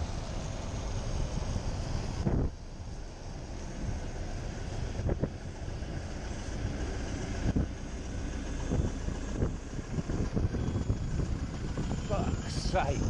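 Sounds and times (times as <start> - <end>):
wind on microphone: 0.0 - 2.7, 4.7 - 13.0
bus passing close: 0.0 - 13.0.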